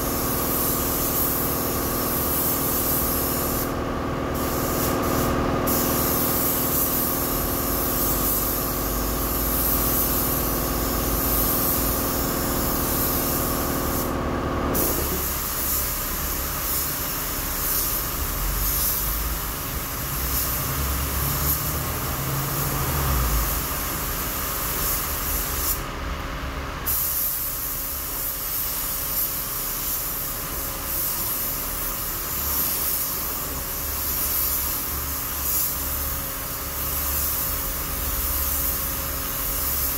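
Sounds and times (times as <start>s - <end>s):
spray gun hissing: 0.0s - 25.8s, 26.9s - 39.9s.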